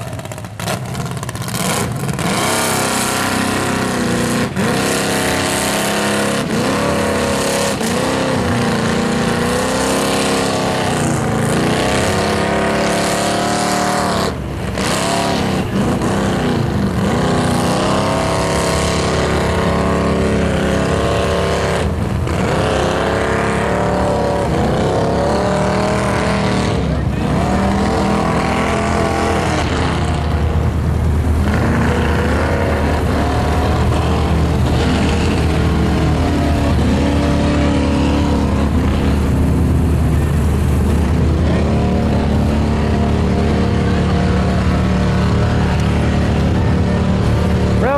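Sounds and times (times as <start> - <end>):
mud buggy engine revving: 0.0 - 47.9
tyres churning through mud: 0.0 - 47.9.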